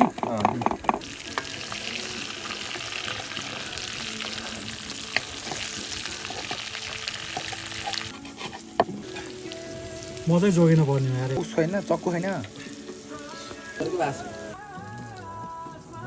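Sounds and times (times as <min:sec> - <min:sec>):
food sizzling in a pan: 0:01.0 - 0:16.0.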